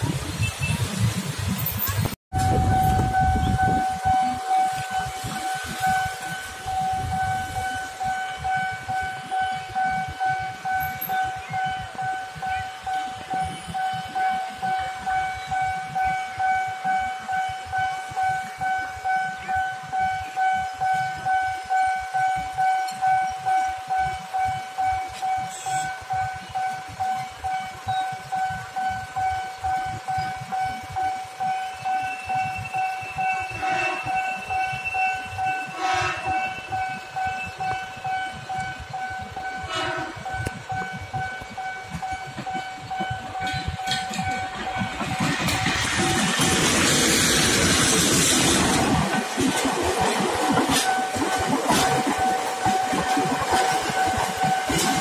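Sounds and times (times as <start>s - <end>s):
higher alarm tone: 2.3s - 55.0s
pulsing electronic alarm tone: 2.4s - 55.0s.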